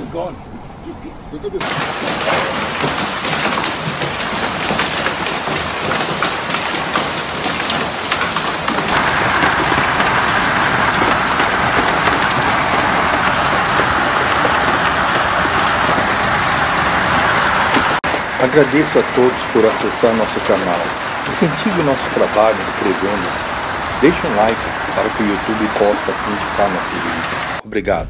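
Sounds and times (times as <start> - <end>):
hail clattering: 1.6 - 27.6
heavy hail and rain roar: 1.6 - 27.6.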